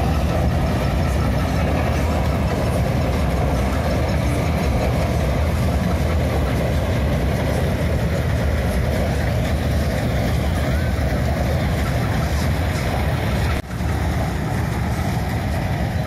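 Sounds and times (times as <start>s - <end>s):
harvester engine droning: 0.0s - 16.0s.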